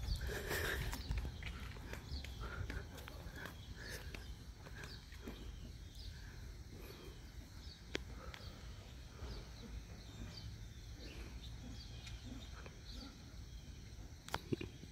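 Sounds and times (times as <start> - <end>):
bird chirps: 0.0 - 14.9.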